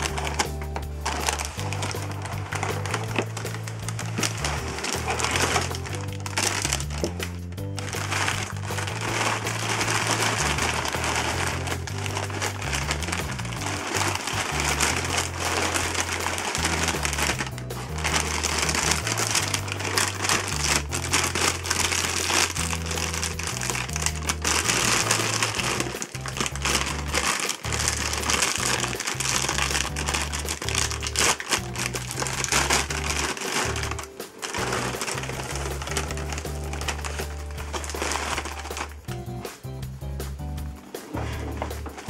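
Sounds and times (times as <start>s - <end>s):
plastic bag crinkling: 0.0s - 39.3s, 41.0s - 42.0s
background music with bass line: 0.0s - 42.0s.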